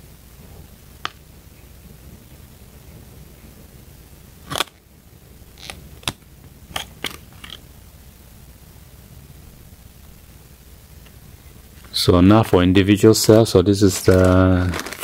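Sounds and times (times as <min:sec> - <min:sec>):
crackling rustle: 0:00.0 - 0:15.0.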